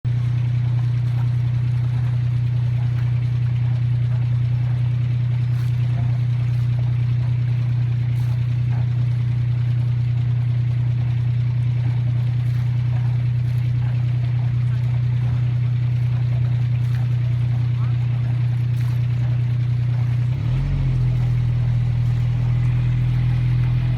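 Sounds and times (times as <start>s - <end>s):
boat engine droning: 0.1s - 23.9s.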